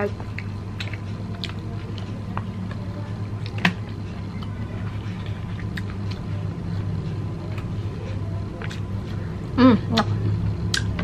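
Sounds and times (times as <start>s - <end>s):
steady low hum: 0.0s - 11.0s
person chewing food: 0.3s - 9.2s, 10.0s - 11.0s.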